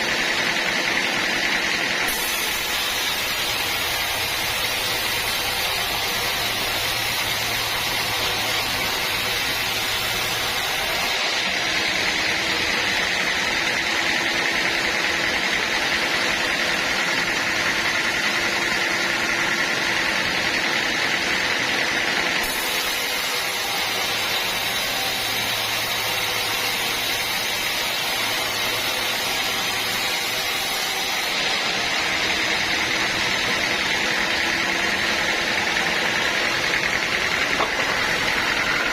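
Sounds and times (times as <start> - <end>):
band sawmill running: 0.0 - 38.9.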